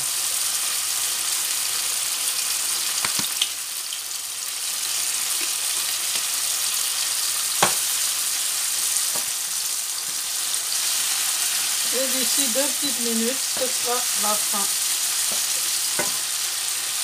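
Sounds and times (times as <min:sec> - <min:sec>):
vegetables sizzling in a frying pan: 0:00.0 - 0:17.0.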